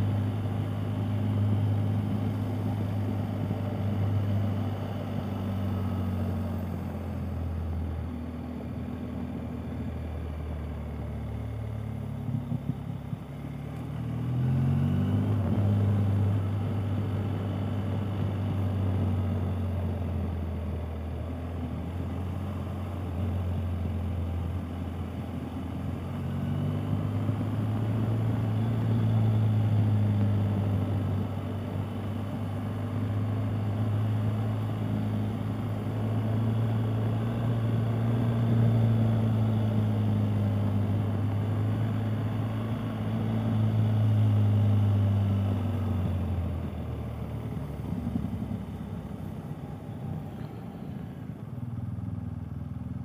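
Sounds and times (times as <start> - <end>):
motorcycle engine running: 0.0 - 14.6, 15.2 - 53.0.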